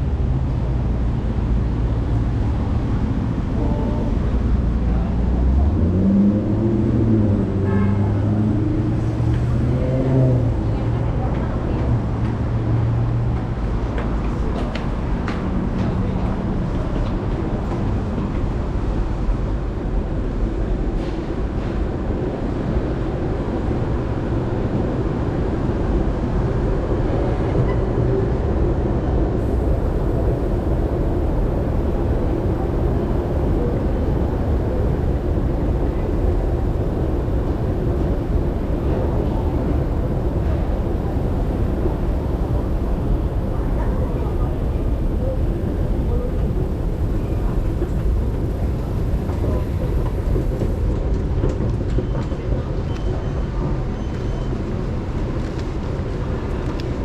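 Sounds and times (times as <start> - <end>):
metro train rumble in tunnel: 0.0 - 57.0.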